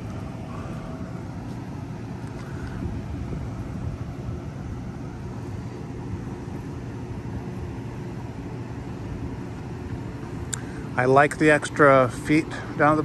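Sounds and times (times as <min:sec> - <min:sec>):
electric blower drone: 0:00.0 - 0:13.0.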